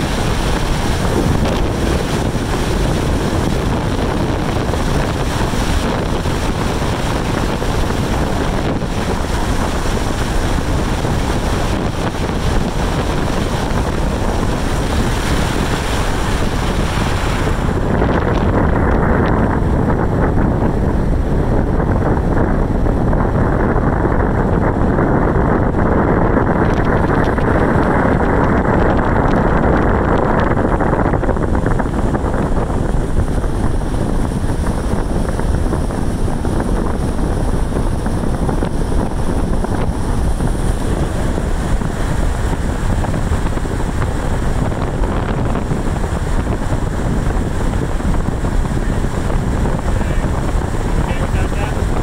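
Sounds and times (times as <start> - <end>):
road and engine noise: 0.0 - 52.0
wind buffeting microphone: 0.0 - 52.0.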